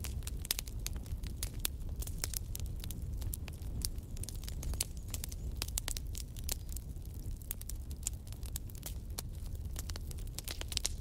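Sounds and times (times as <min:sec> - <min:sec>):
burning logs crackling and popping: 0:00.0 - 0:11.0
low rumble of flames: 0:00.0 - 0:11.0.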